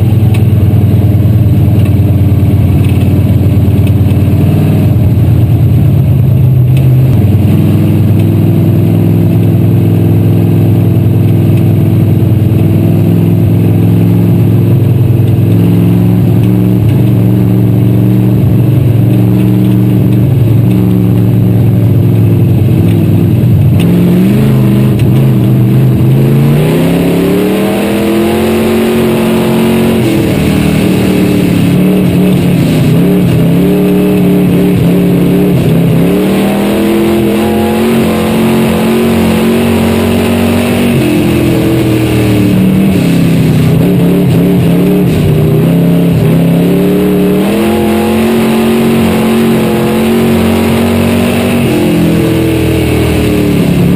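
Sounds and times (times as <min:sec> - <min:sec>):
stock car engine revving: 0:00.0 - 0:53.9.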